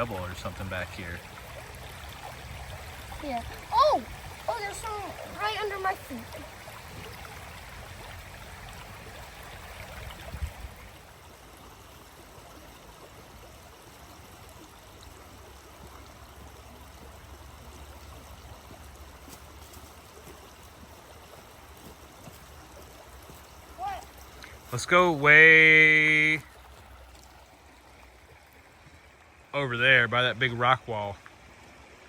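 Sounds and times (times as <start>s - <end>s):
creek water running: 0.0s - 32.0s.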